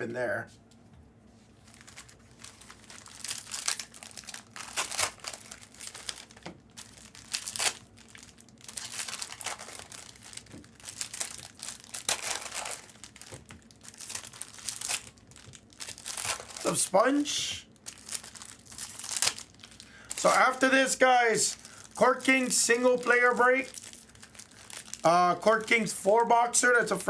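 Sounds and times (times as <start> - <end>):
wrappers crinkling and tearing: 1.6 - 26.9.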